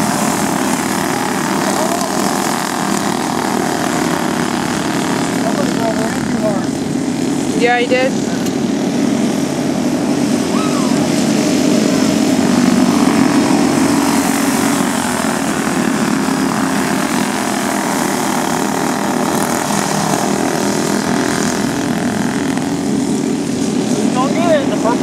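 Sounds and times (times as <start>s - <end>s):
go-kart engines buzzing: 0.0s - 25.0s.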